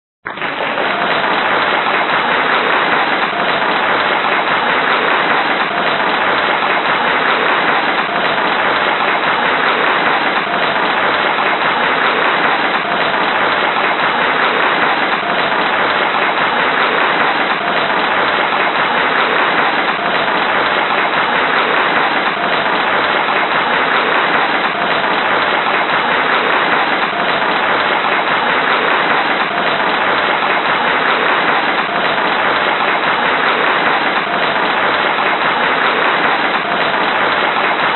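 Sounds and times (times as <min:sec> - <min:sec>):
large crowd applauding: 0:00.2 - 0:37.9.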